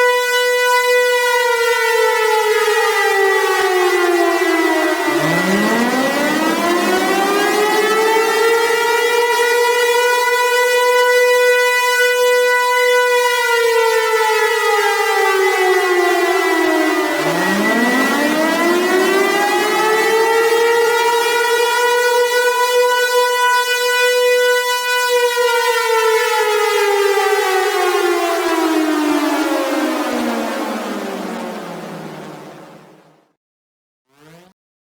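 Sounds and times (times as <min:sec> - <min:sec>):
tornado siren wailing: 0:00.0 - 0:33.2.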